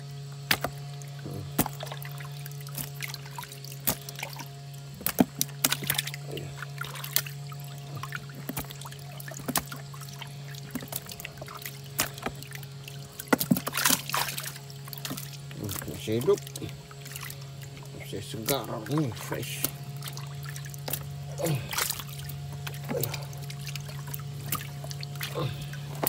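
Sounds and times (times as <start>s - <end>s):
steady low hum: 0.0s - 26.0s
fish flapping and splashing: 0.3s - 26.0s.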